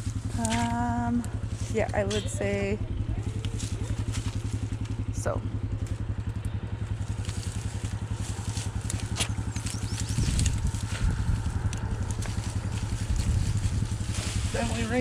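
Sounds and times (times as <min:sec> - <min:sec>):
utility vehicle engine idling: 0:00.0 - 0:15.0.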